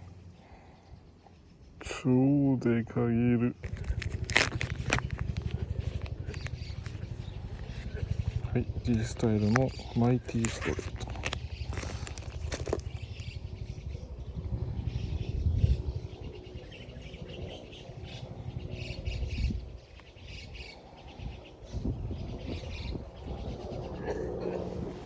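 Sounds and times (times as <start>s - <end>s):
small birds chirping: 3.4s - 25.0s
steady low rumble: 3.5s - 25.0s.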